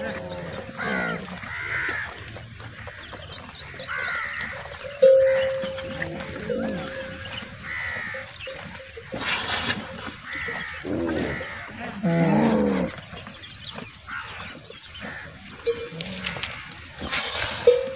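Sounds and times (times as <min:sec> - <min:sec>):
camels calling: 0:00.0 - 0:17.9.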